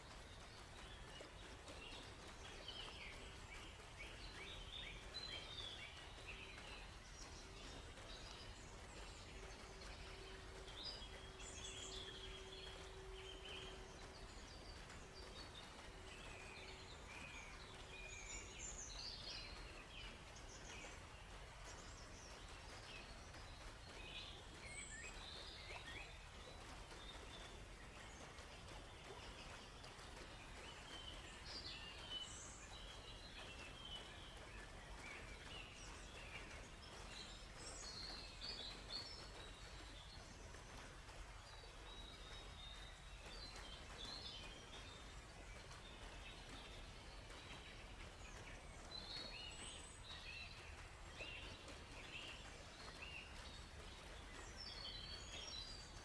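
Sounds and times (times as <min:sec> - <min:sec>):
low background hiss: 0:00.0 - 0:56.0
songbirds chirping and trilling: 0:00.0 - 0:56.0.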